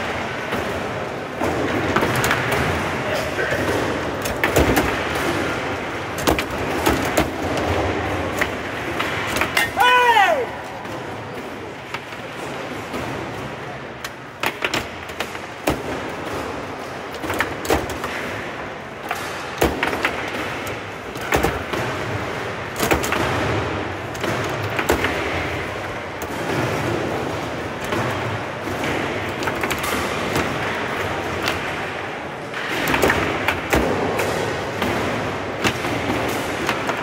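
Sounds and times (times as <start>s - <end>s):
steady background noise: 0.0s - 37.0s.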